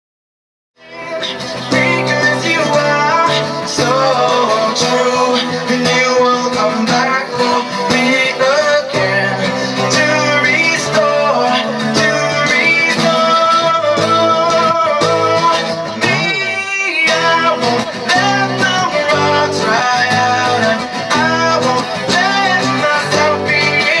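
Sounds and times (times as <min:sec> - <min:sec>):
guitar band music: 0:00.8 - 0:24.0
person singing: 0:00.8 - 0:24.0.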